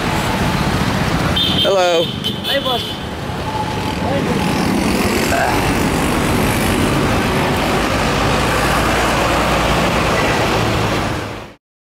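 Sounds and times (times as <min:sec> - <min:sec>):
road rushing: 0:00.0 - 0:11.6
street traffic: 0:00.0 - 0:11.6.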